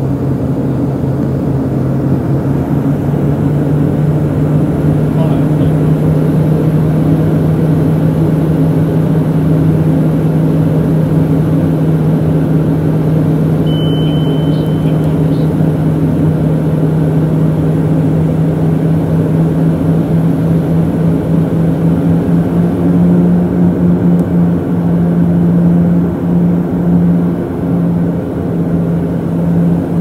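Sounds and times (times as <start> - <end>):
airplane engines droning in cabin: 0.0 - 30.0
low propeller hum: 0.0 - 30.0.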